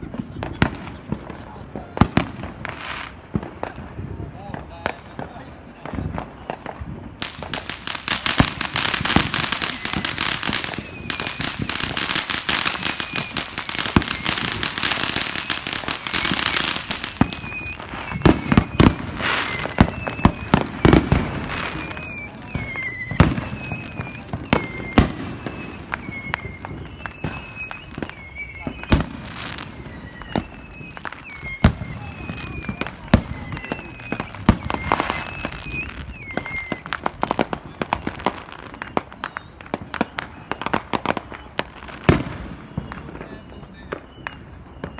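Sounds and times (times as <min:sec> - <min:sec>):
fireworks bangs and booms: 0:00.0 - 0:44.9
fireworks crackling: 0:00.0 - 0:44.9.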